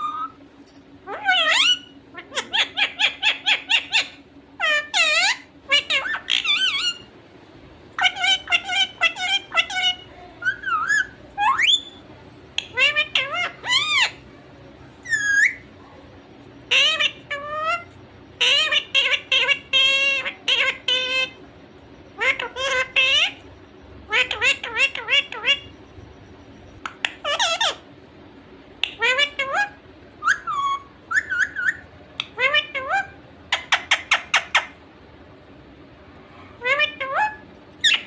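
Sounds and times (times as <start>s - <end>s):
parrot squawking and chattering: 0.0s - 0.4s, 1.0s - 7.1s, 7.9s - 14.3s, 14.9s - 15.9s, 16.6s - 21.5s, 22.1s - 25.8s, 26.8s - 27.9s, 28.8s - 34.9s, 36.6s - 38.0s.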